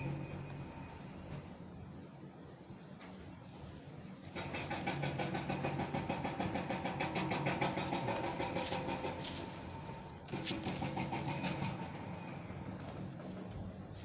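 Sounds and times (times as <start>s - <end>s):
engine running: 0.0s - 2.2s, 3.5s - 14.0s.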